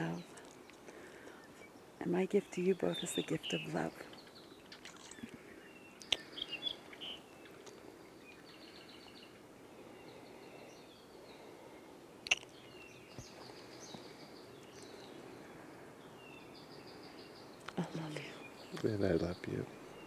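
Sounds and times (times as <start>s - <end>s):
faint birdsong chirps and trills: 0.0s - 20.0s
low background hiss: 0.0s - 20.0s.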